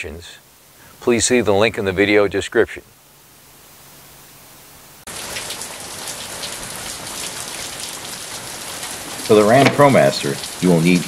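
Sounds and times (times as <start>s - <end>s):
background hiss: 0.0s - 11.0s
steady rain falling: 0.0s - 11.0s.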